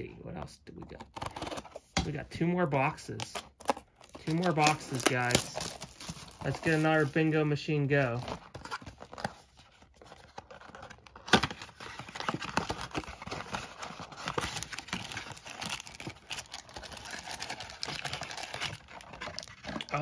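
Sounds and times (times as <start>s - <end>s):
packs crinkling and scraping: 3.0s - 20.0s.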